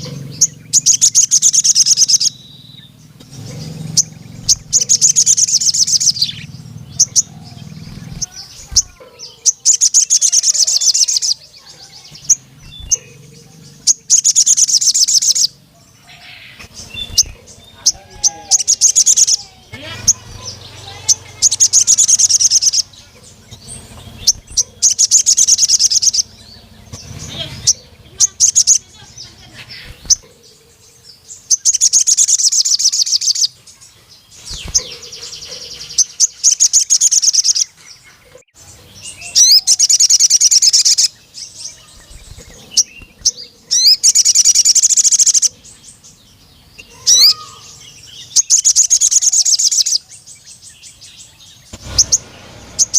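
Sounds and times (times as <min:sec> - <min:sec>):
bird high-pitched chirping song: 0:00.0 - 0:52.9.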